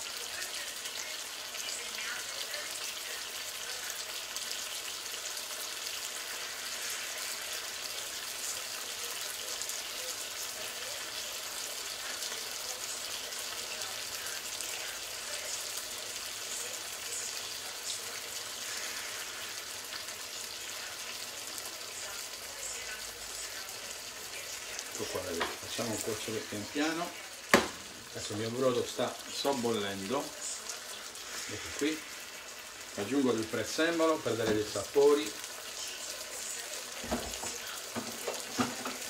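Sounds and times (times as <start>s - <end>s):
vegetables sizzling in a frying pan: 0.0s - 39.0s.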